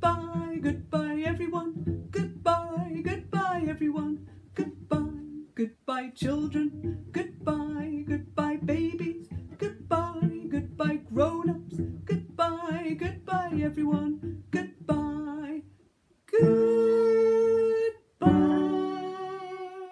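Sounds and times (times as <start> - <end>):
strummed plucked strings: 0.0 - 5.6, 6.2 - 15.7, 16.4 - 19.9
person singing: 0.0 - 15.7, 16.3 - 19.9.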